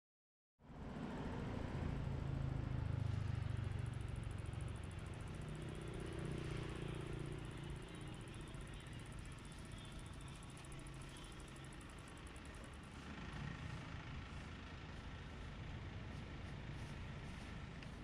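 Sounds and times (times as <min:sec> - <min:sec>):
low engine hum: 0:00.6 - 0:18.0
road noise: 0:00.6 - 0:18.0.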